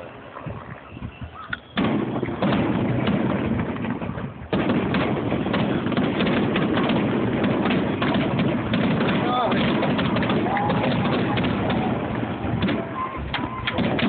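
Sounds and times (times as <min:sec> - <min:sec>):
fireworks bangs and crackles: 0:01.6 - 0:14.0.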